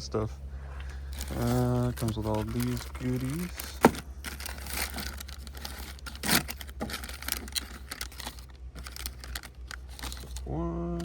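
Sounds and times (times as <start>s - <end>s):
packaging rustling and clicking: 0.9s - 10.5s.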